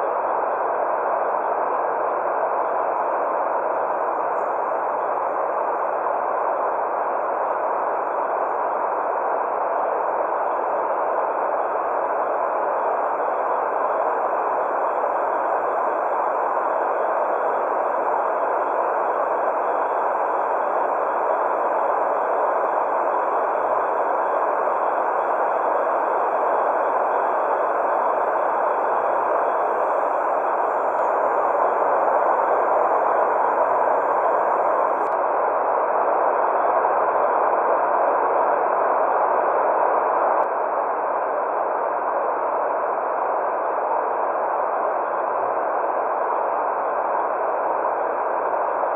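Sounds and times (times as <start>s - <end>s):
white noise hiss: 0.0s - 40.4s.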